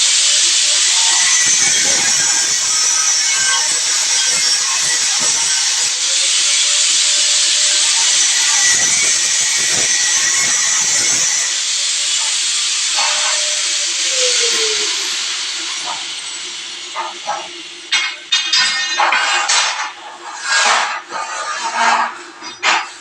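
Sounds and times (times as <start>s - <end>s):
high-pressure water jet hissing: 0.0s - 23.0s.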